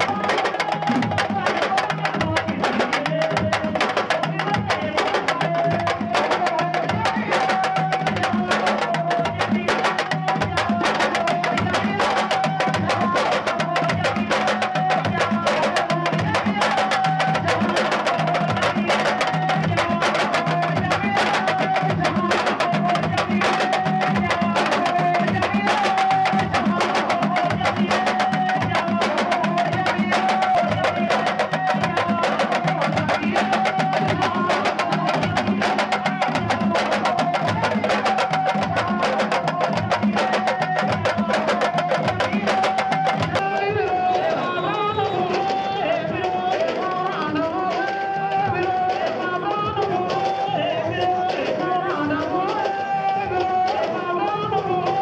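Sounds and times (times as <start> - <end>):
drum ensemble playing fast rhythm: 0.0 - 55.0.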